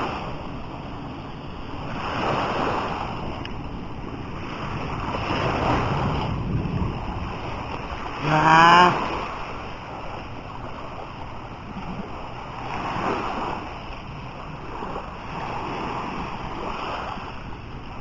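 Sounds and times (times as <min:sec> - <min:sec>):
sea waves washing onto beach: 0:00.0 - 0:18.0.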